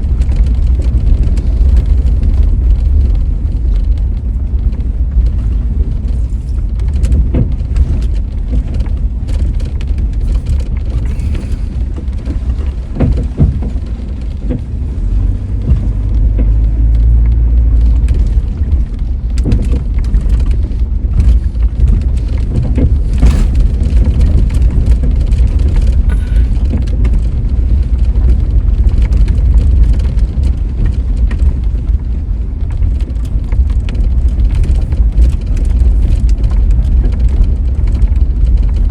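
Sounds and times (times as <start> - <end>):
car interior rumble: 0.0 - 38.9
knocks and rattles: 0.1 - 38.9.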